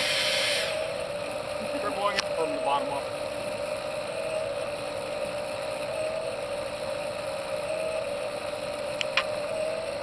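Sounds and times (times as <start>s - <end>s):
motor whining: 0.0s - 10.0s.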